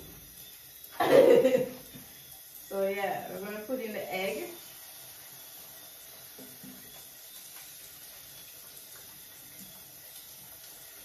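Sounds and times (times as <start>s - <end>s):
eggs sizzling in oil: 0.0s - 11.0s.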